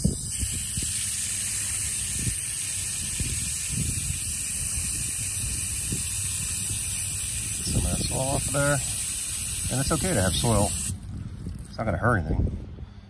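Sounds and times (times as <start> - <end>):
hose nozzle spraying water: 0.0 - 11.0.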